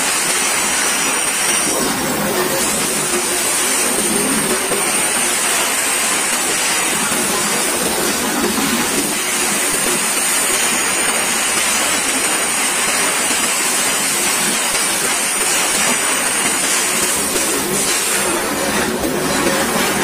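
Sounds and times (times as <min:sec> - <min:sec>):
freight wagon wheels on rails: 0:00.0 - 0:20.0.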